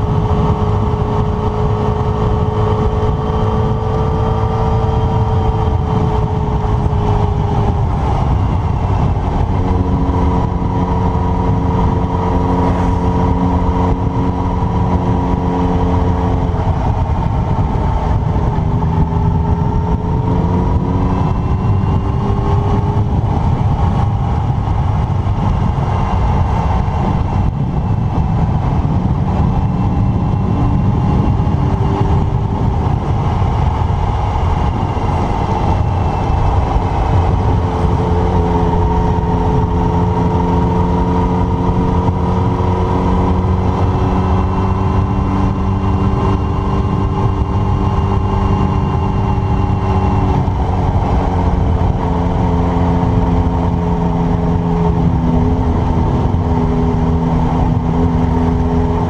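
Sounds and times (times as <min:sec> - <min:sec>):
motorcycle engine cruising: 0:00.0 - 0:59.0
wind noise: 0:00.0 - 0:59.0.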